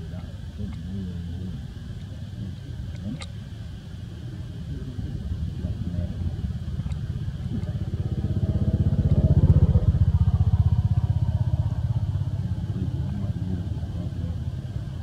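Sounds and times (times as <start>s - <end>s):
motor engine low throb: 0.0s - 15.0s.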